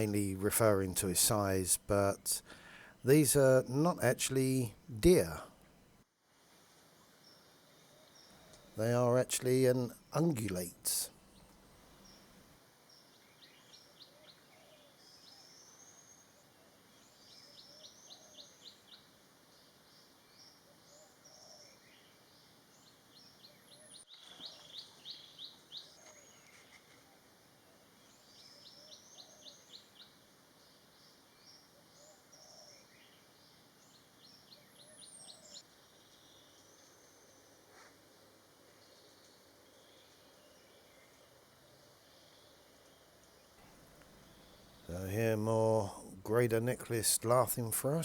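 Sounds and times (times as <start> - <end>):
birds calling faintly: 0.0 - 6.0, 6.8 - 48.0.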